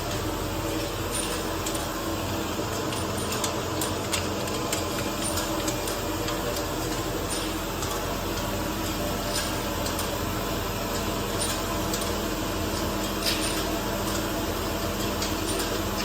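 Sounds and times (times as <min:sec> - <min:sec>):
washing machine mechanical hum: 0:00.0 - 0:16.0.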